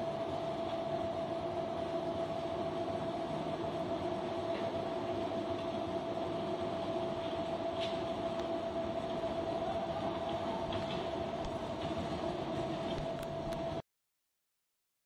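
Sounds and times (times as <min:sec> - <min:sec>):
machine hum with steady whine: 0:00.0 - 0:13.8.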